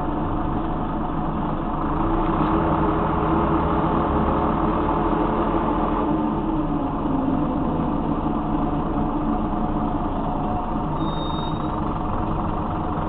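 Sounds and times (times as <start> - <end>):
bus diesel engine running: 0.0 - 13.0
road noise: 0.0 - 13.0.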